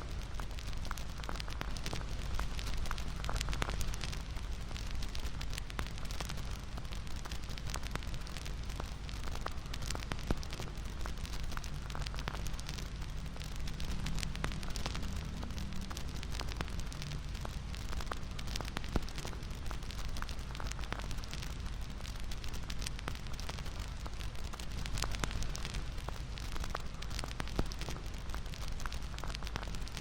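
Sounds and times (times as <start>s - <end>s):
sharp fire pops: 0.0s - 30.0s
wood fire crackling: 0.0s - 30.0s.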